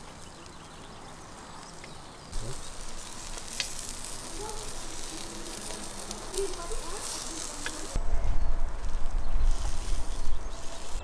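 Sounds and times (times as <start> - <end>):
fish sizzling on a grill: 0.0 - 8.0, 8.7 - 11.0.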